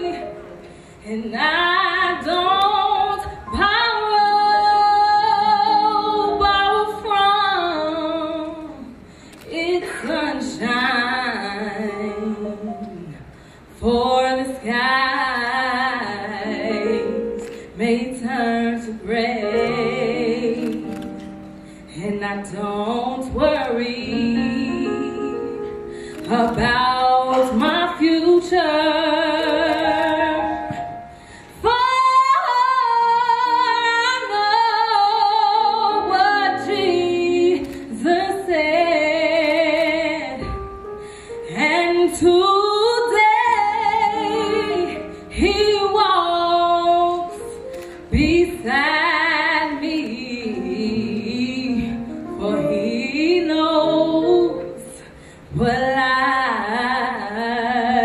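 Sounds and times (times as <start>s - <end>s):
woman singing with vibrato: 0.0s - 21.2s, 21.8s - 40.6s, 41.5s - 58.0s.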